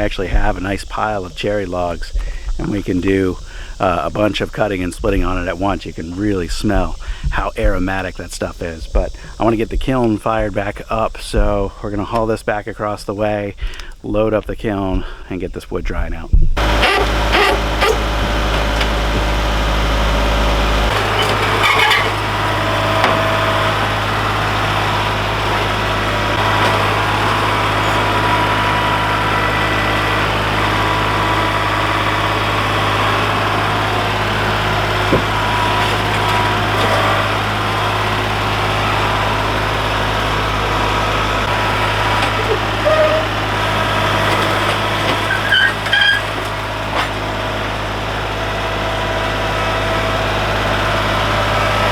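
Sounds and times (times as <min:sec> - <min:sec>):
vehicle engine running: 0:00.0 - 0:10.8, 0:16.6 - 0:51.9.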